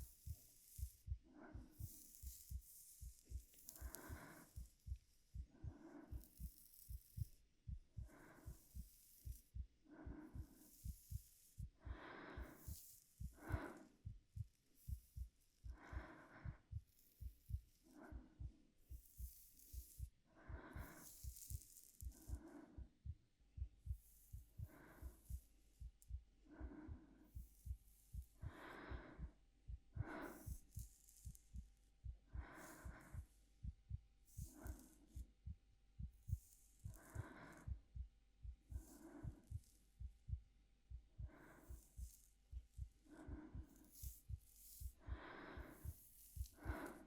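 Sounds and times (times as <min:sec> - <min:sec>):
heartbeat thumping: 0:00.0 - 0:47.0
slow soft breaths: 0:00.0 - 0:47.0.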